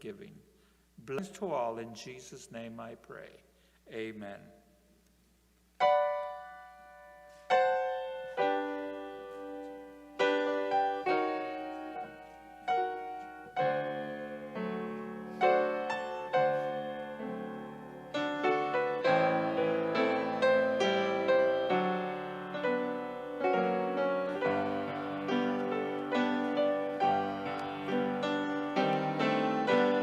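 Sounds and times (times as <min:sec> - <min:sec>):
solo piano chords: 0:05.8 - 0:30.0.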